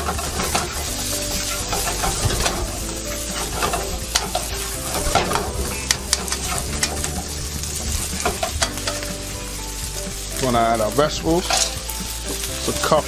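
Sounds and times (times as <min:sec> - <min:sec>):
food sizzling in a wok: 0:00.0 - 0:13.0
spatula scraping a pan: 0:00.0 - 0:13.0.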